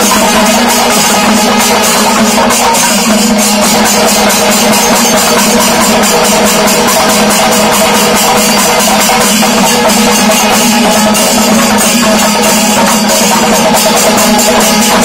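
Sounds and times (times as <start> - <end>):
cymbals clashing: 0.0 - 15.0
massed drums beaten with sticks: 0.0 - 15.0.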